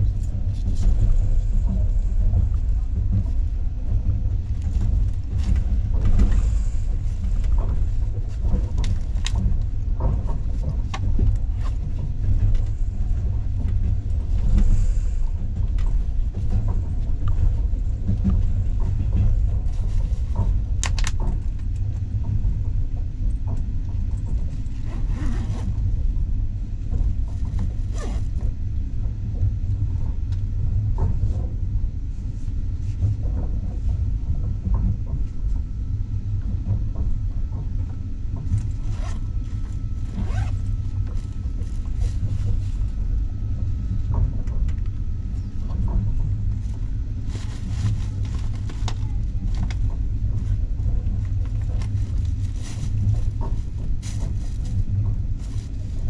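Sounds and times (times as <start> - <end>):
train carriage rumbling: 0.0 - 56.0.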